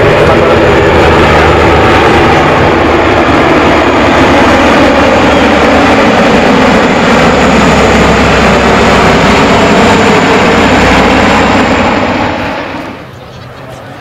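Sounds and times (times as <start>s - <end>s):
aircraft propellers and rotors droning: 0.0s - 14.0s.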